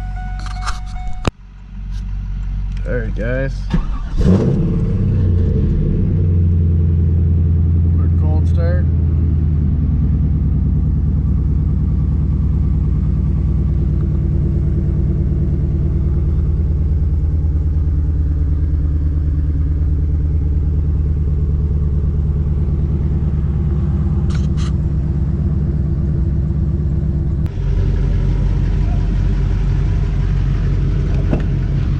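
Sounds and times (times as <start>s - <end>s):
car engine idling deep rumble: 0.0s - 31.9s.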